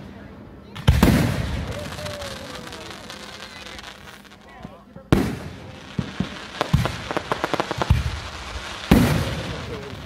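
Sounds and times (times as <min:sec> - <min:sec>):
firework booms: 0:00.8 - 0:10.0
firework crackles: 0:00.8 - 0:10.0
firework pops: 0:00.8 - 0:10.0.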